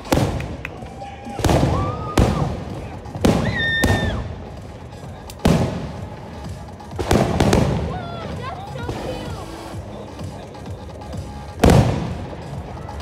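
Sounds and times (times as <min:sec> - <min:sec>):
fireworks booming and cracking: 0:00.0 - 0:13.0.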